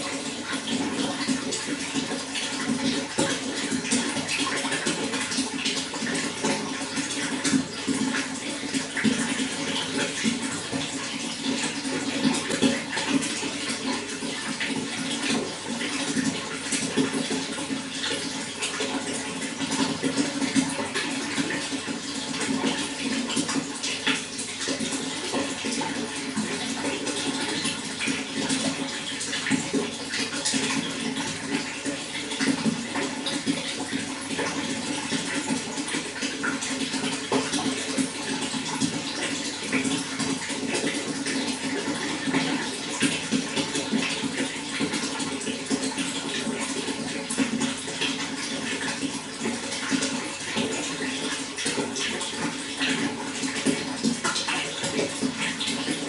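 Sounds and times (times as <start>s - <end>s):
running water splashing: 0.0s - 56.0s.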